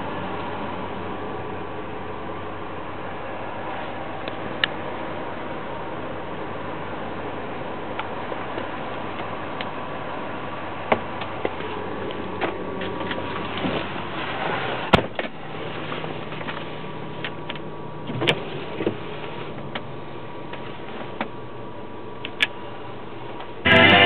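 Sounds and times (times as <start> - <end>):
low hum inside car cabin: 0.0 - 24.0.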